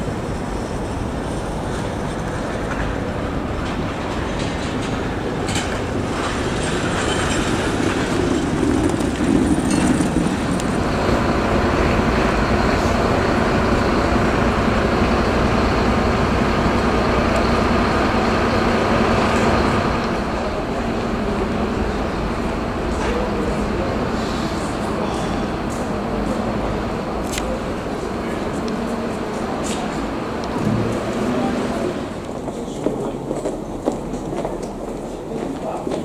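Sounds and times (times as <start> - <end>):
low engine hum: 0.0 - 34.9
road traffic rumble: 0.0 - 36.0.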